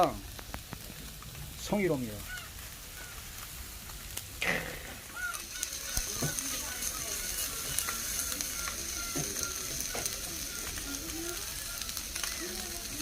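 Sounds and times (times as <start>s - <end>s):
fish sizzling on a hot stove: 0.0s - 13.0s.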